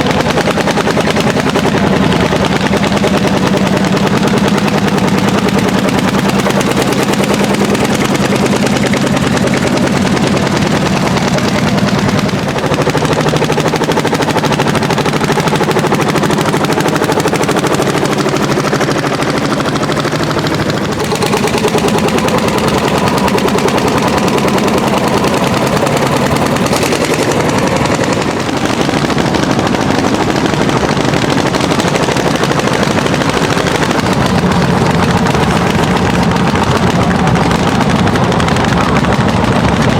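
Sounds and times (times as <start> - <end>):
tractor engine exhaust beats: 0.0 - 39.9.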